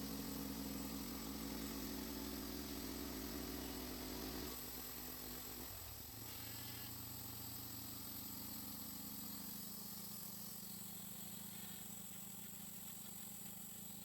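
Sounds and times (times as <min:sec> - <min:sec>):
small gasoline engine idling: 0:00.0 - 0:14.0.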